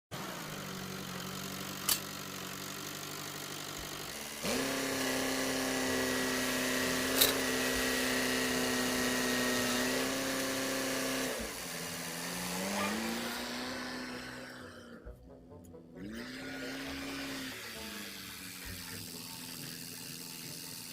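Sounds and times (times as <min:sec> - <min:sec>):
small engine running: 0:00.1 - 0:15.1, 0:15.8 - 0:20.9.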